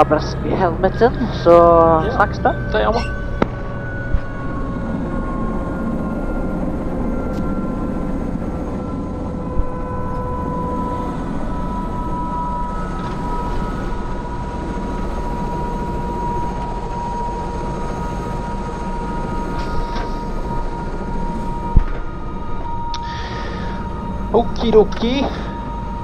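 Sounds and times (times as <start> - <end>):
helicopter turbine and rotor: 0.0 - 26.0.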